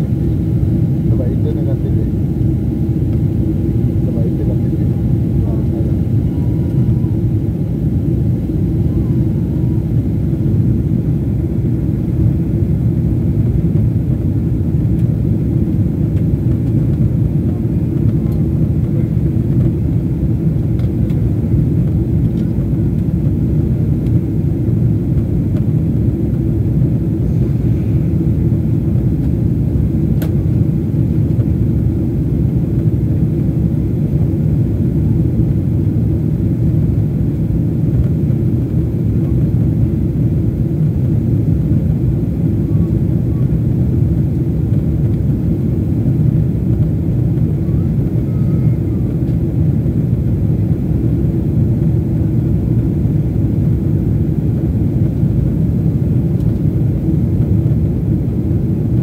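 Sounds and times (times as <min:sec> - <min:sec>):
jet airliner cabin roar: 0:00.0 - 0:59.0.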